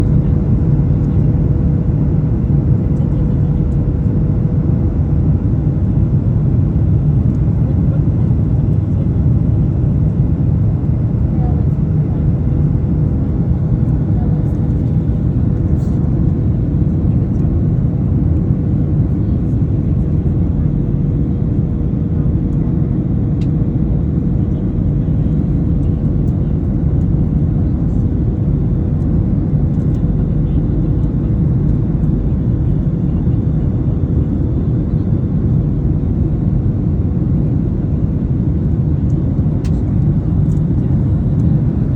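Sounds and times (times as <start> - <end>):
engine and airflow rumble: 0.0 - 41.9.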